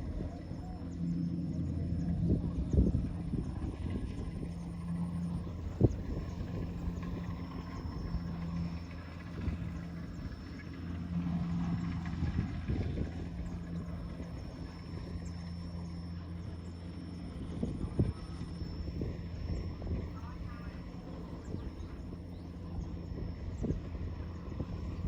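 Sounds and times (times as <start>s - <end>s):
harvester engine drone: 0.0s - 25.0s.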